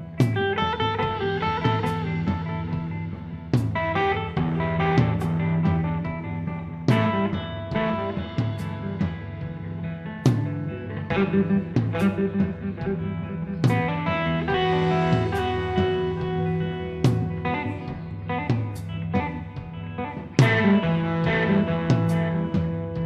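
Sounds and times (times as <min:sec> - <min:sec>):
drum and cymbal accents: 0:00.0 - 0:22.7
distorted electric guitar chords: 0:00.0 - 0:23.0.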